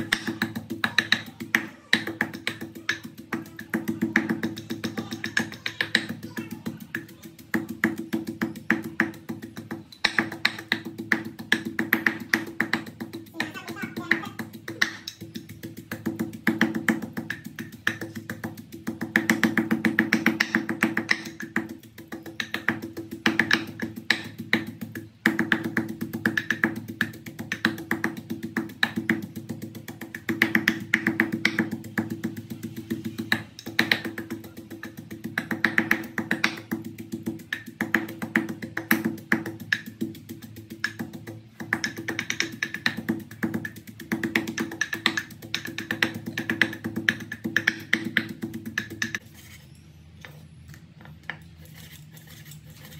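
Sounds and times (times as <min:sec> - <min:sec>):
pestle pounding in wooden mortar: 0:00.0 - 0:49.2.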